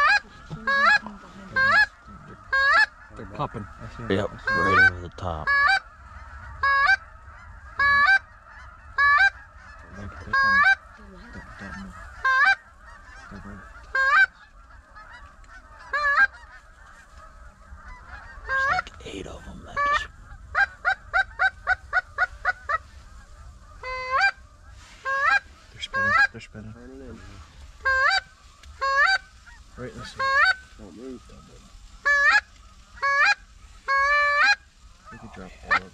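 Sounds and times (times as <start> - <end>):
flock of geese chattering: 0.0 - 35.9
goose honks: 0.0 - 35.9.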